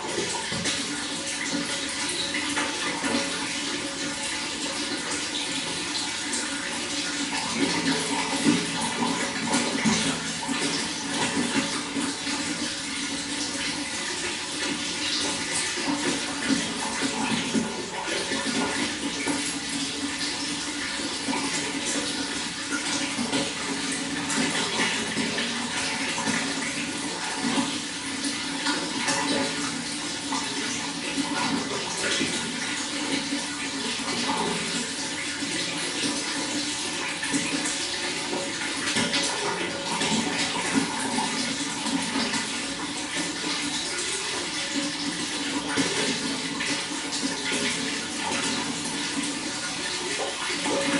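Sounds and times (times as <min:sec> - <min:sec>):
running water flowing: 0:00.0 - 0:50.9.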